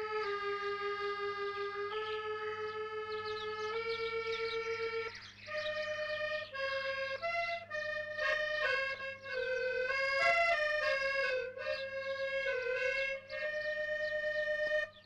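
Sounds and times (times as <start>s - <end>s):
accordion melody: 0.0s - 15.0s.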